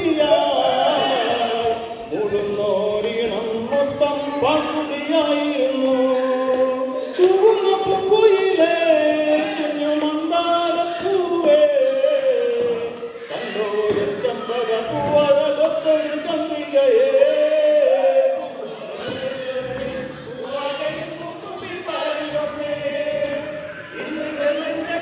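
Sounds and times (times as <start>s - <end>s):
men singing folk song in chorus: 0.0s - 25.0s.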